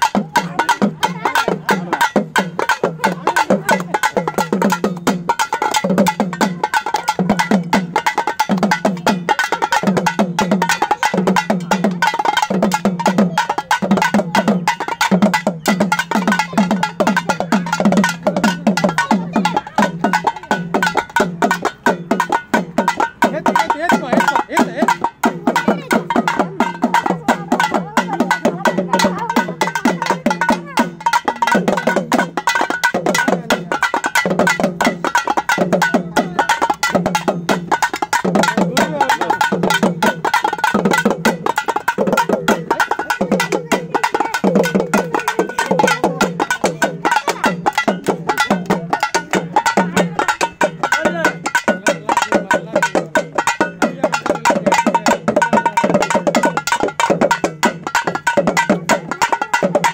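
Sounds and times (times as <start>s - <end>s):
small drums beaten with sticks: 0.0s - 59.9s.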